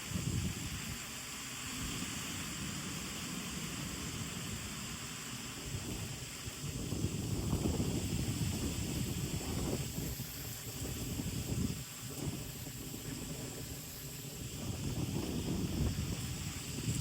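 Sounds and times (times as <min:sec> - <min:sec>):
wind gusting through trees: 0:00.0 - 0:17.0.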